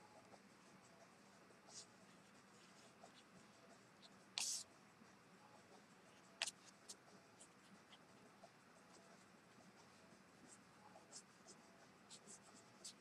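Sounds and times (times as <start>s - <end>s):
brush pen scratching paper: 0.8s - 4.7s, 5.6s - 13.0s.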